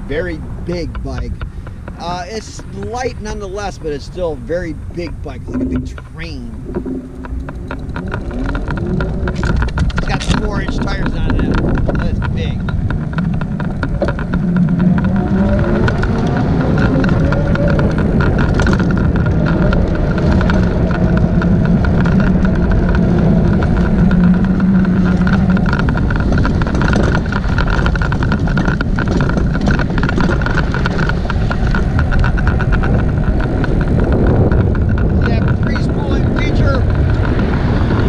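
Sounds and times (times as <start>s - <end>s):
bike tyres rumbling on concrete: 0.0s - 38.0s
low hum: 0.0s - 38.0s
wind: 0.0s - 38.0s.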